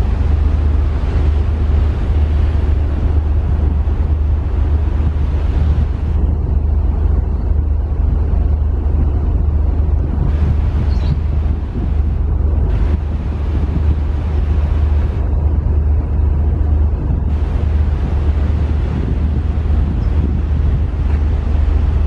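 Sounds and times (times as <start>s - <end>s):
ferry engines droning: 0.0s - 22.0s
wind buffeting microphone: 0.0s - 22.0s.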